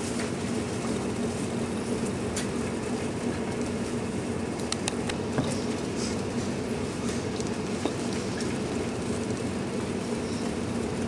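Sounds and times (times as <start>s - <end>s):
ship machinery humming: 0.0s - 11.0s.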